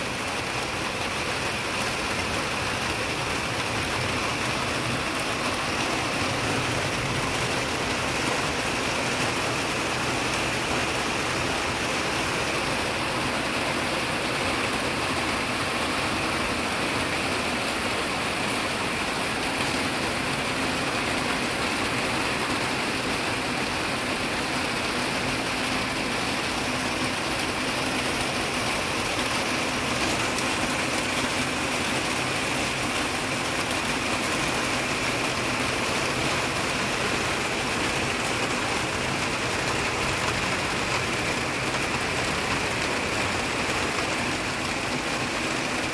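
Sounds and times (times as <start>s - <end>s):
heavy rain on plastic roof: 0.0s - 45.9s.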